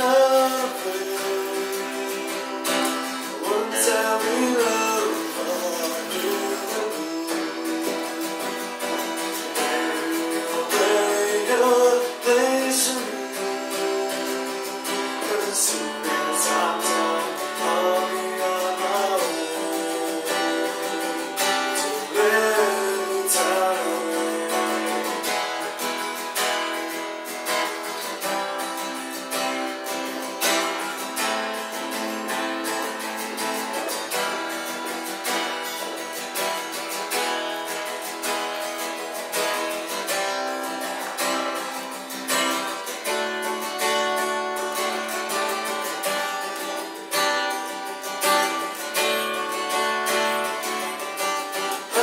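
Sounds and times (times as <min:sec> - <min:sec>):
acoustic guitar strumming chords: 0:00.0 - 0:52.0.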